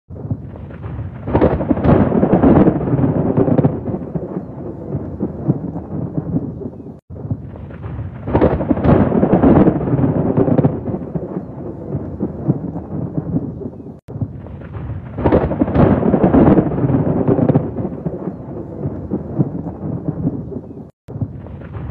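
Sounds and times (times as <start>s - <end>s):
thunder peals: 0.1s - 21.9s
thunder rumbling: 0.1s - 21.9s
rain: 0.3s - 21.9s.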